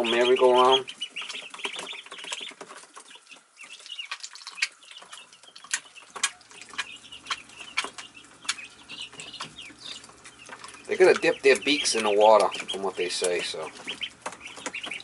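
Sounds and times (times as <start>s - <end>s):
beaks pecking at plastic feeder: 0.0s - 15.0s
ducklings peeping: 0.0s - 15.0s.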